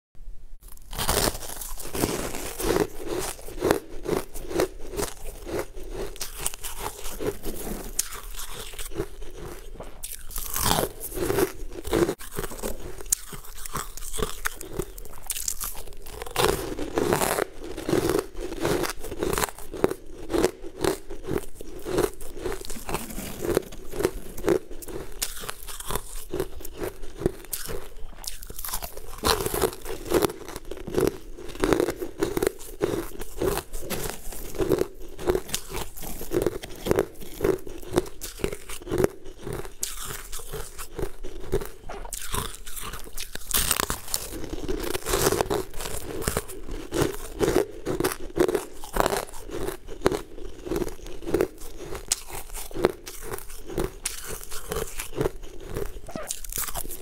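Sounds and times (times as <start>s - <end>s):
crunching frozen chunks: 0.6s - 57.0s.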